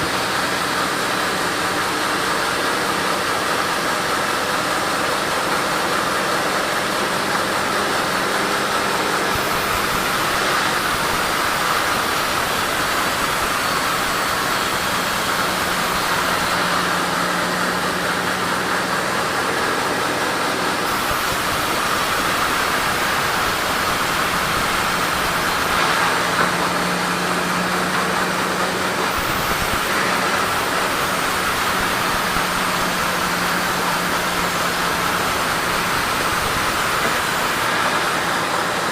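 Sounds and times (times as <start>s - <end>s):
sawmill saw cutting log: 0.0s - 38.9s.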